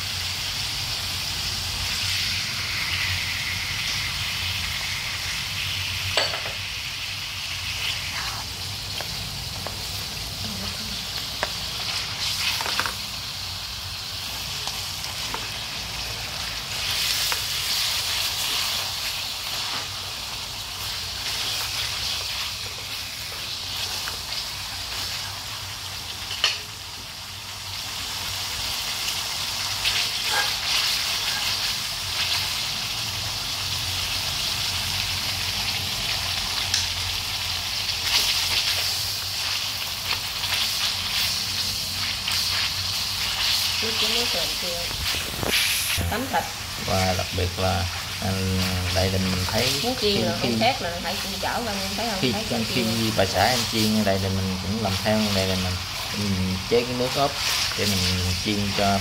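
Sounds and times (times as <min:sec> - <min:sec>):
meat sizzling in hot oil: 0:00.0 - 0:59.0
stirring in pan: 0:07.6 - 0:27.1, 0:28.0 - 0:33.0, 0:36.0 - 0:59.0.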